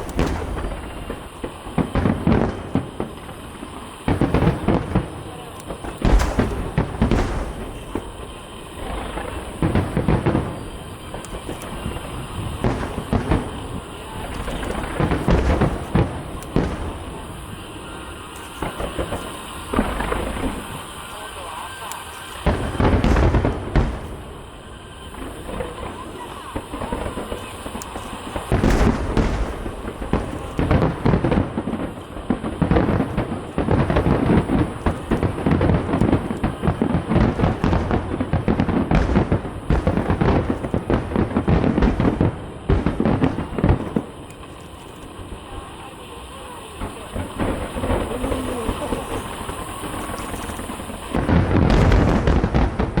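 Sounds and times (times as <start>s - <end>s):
fireworks bursting: 0.0s - 53.0s.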